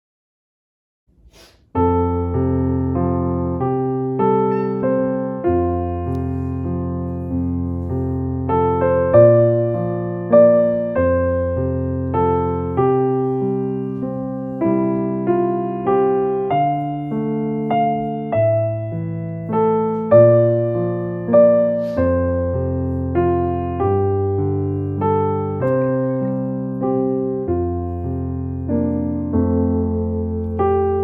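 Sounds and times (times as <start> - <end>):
gentle piano melody: 1.7 - 31.0.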